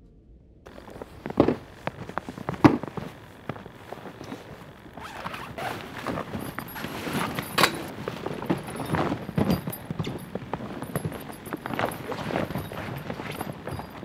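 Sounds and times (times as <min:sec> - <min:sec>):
footsteps crunching in snow: 0:00.7 - 0:14.0
tent fabric rustling and flapping: 0:00.7 - 0:14.0.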